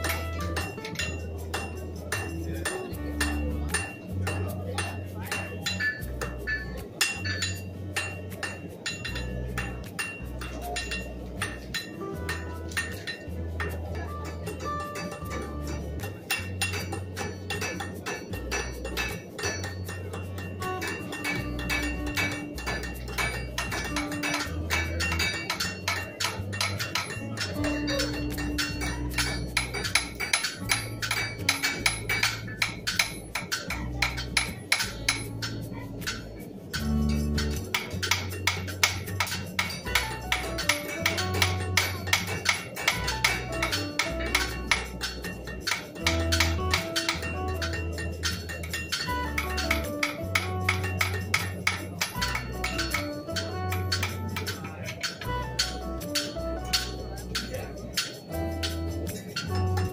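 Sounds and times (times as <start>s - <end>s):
hammers striking metal on anvils: 0.0s - 59.9s.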